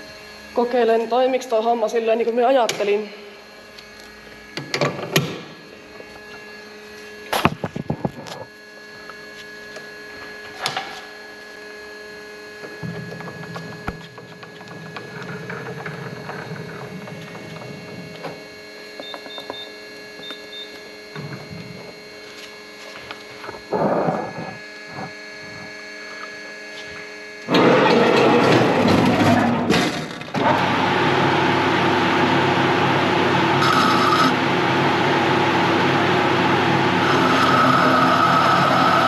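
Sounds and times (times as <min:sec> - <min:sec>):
rough machine working noise: 0:00.0 - 0:39.0
workshop machinery humming: 0:00.0 - 0:39.0.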